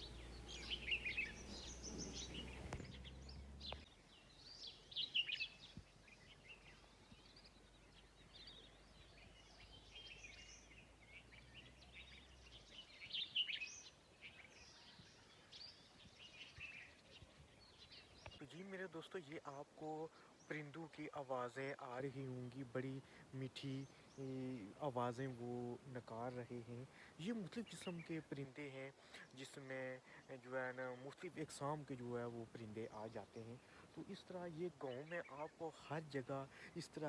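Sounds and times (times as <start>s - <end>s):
birds chirping and twittering: 0.0s - 37.0s.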